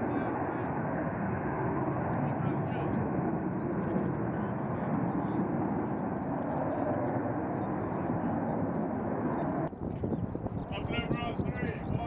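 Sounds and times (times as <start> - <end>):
jet aircraft roar: 0.0 - 12.0.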